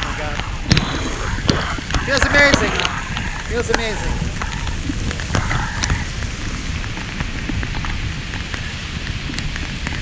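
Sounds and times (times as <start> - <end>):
rain rushing: 0.0 - 10.0
raindrops ticking on microphone: 0.0 - 10.0
wind on microphone: 0.0 - 10.0.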